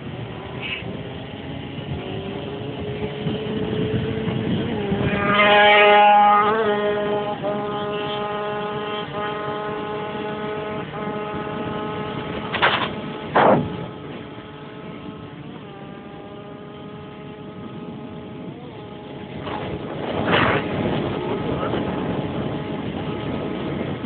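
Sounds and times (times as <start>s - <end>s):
racing motorcycle engines high revs: 0.0s - 23.9s
motorcycles passing close by: 0.0s - 24.0s.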